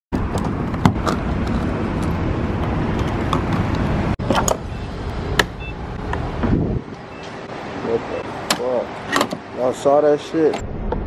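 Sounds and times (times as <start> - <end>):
low vehicle rumble: 0.2 - 9.6.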